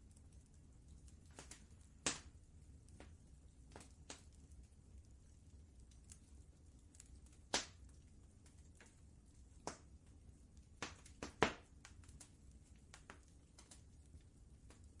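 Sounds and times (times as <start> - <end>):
faint low rumble: 0.0 - 15.0
wood fire crackling: 0.0 - 15.0.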